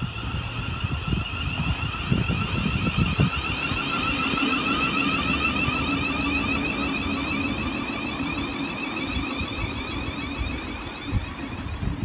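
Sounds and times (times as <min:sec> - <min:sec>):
electric train whine: 0:00.0 - 0:12.0
wheels rumbling on rail: 0:00.0 - 0:12.0.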